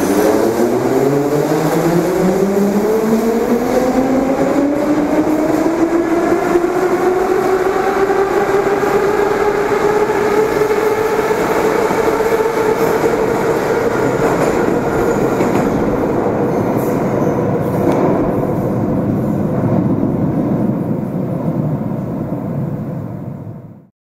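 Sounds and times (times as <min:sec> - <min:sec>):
train wheels rumbling and clattering: 0:00.0 - 0:23.7.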